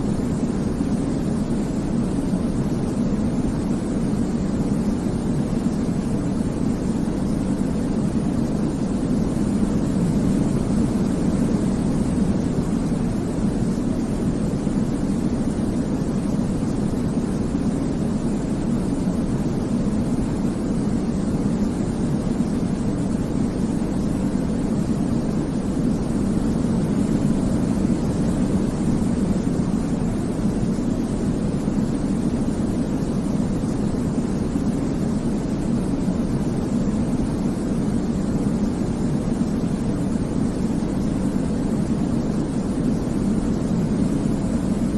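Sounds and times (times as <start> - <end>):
deep rumbling white noise: 0.0 - 44.9.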